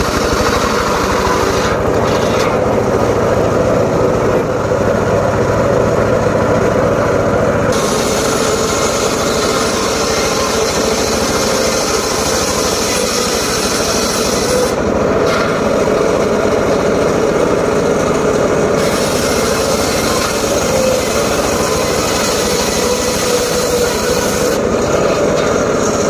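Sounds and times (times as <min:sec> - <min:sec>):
circular saw cutting wood: 0:00.0 - 0:26.0.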